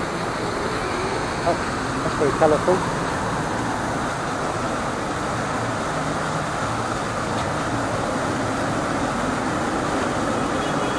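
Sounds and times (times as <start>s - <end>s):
fountain water splashing: 0.0s - 10.9s.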